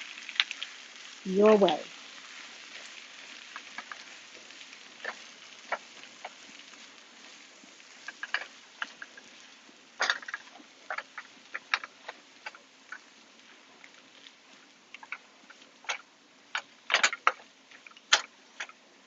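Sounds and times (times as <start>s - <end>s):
sharp crackles and pops: 0.0s - 19.0s
vegetables sizzling in a frying pan: 0.0s - 19.0s.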